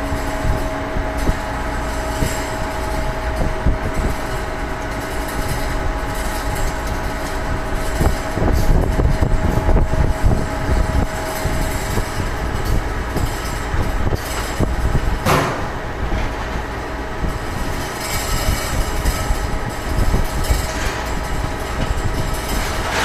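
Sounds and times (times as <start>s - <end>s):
spring machine rattling: 0.0s - 23.0s.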